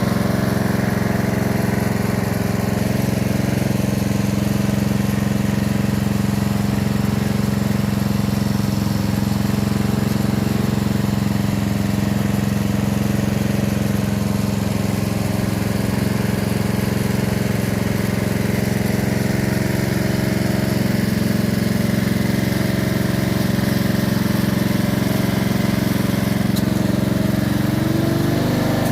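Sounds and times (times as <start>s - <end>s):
threshing machine engine running: 0.0s - 28.9s.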